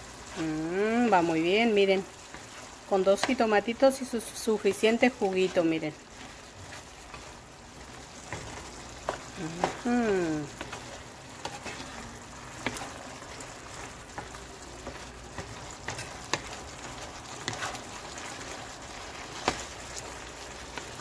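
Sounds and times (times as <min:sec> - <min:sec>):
food sizzling in a frying pan: 0:00.0 - 0:21.0
spatula scraping and tapping pan: 0:02.2 - 0:21.0.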